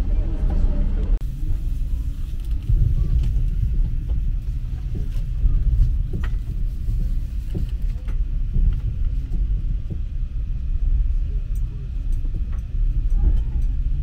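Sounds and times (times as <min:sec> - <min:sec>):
moving train rumble: 0:00.0 - 0:14.0.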